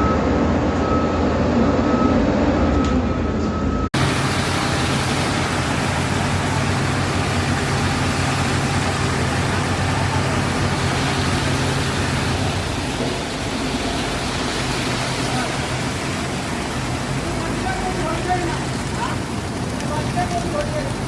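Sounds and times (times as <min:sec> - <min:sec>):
diesel engine hum: 0:00.0 - 0:21.0
rushing of turning drum and pour: 0:04.0 - 0:21.0.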